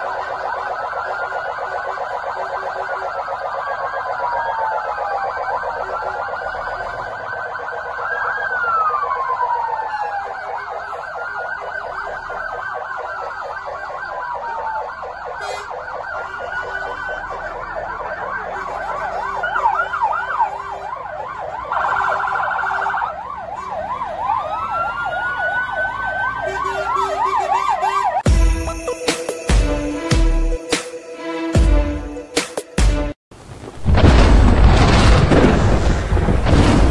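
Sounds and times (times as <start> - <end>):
yelping sirens: 0.0 - 32.3
wailing fire engine sirens: 0.0 - 33.0.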